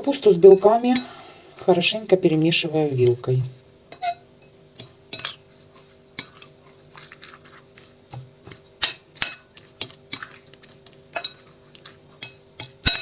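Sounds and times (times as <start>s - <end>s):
fork scraping a bowl: 0.9s - 13.0s.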